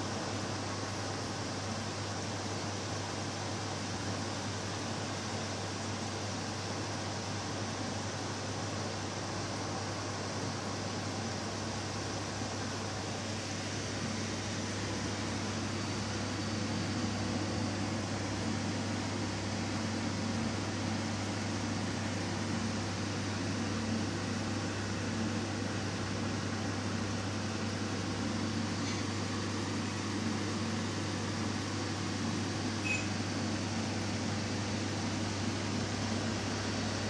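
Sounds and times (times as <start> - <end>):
aquarium pump humming: 0.0 - 37.0.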